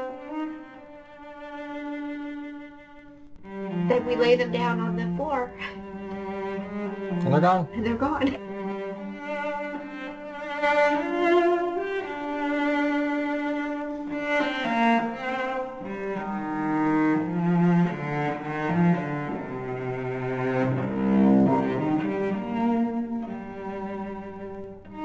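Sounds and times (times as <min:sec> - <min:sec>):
slow background music: 0:00.0 - 0:25.0.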